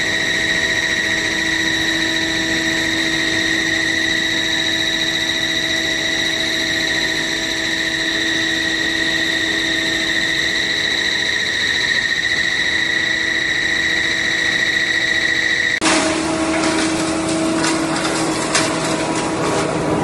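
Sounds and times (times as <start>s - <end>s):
machinery high-pitched whine: 0.0s - 20.0s.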